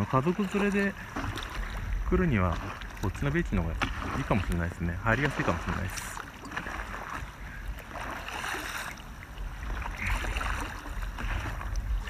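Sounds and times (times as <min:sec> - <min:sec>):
water splashing around paddleboard: 0:00.0 - 0:12.0
wind on microphone: 0:00.9 - 0:12.0.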